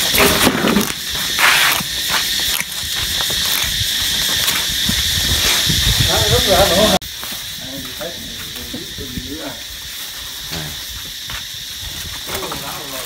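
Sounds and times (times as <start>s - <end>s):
high insect chorus: 0.0s - 13.0s
wind rumble on microphone: 1.9s - 13.0s.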